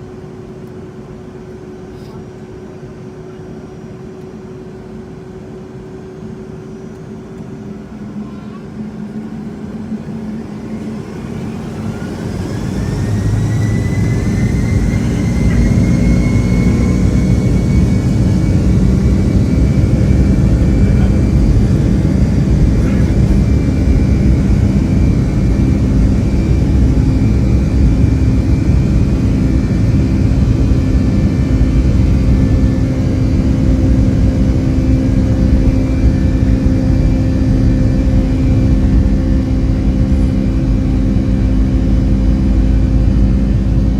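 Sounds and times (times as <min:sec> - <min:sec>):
jet engines spooling up: 0:03.8 - 0:43.9.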